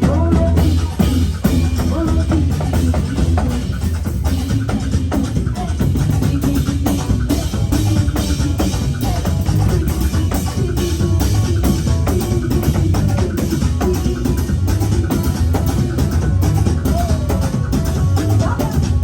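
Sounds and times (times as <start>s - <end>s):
drum kit beat: 0.0s - 19.0s
live band music: 0.0s - 19.0s.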